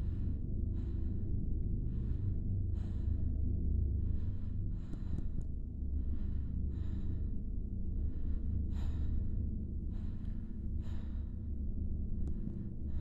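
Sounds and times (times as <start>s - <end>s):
low steady drone: 0.0s - 13.0s
woman breathing: 0.0s - 13.0s.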